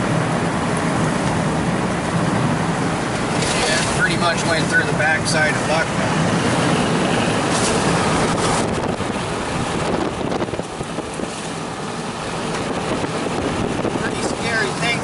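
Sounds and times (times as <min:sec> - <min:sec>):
low engine hum: 0:00.0 - 0:15.0
road and wind noise: 0:00.0 - 0:15.0.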